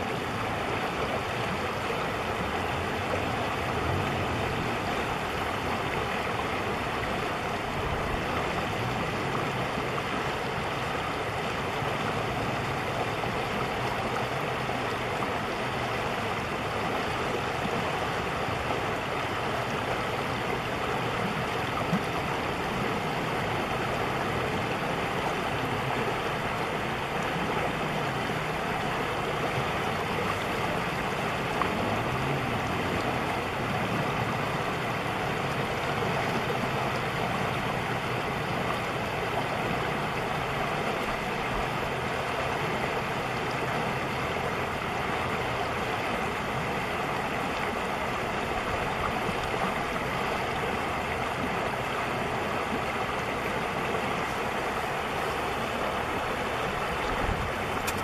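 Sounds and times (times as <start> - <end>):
river rushing over stones: 0.0 - 58.0.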